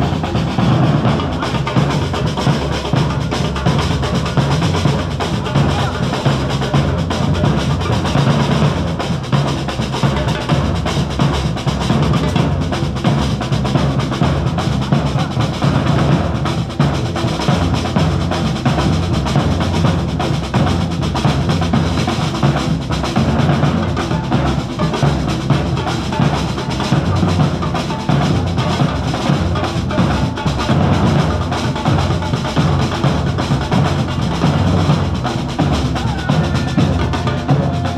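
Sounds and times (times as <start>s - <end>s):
marching drum line drumming: 0.0s - 37.9s.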